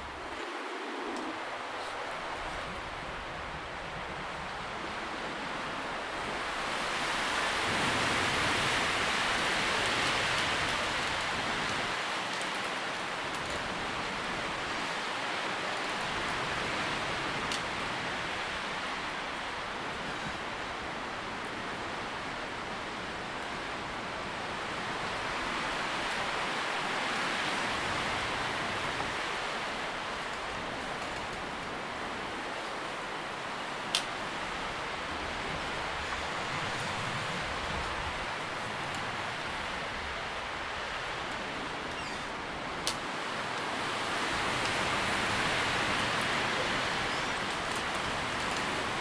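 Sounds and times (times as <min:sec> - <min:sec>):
wind rustling tree leaves: 0:00.0 - 0:49.0.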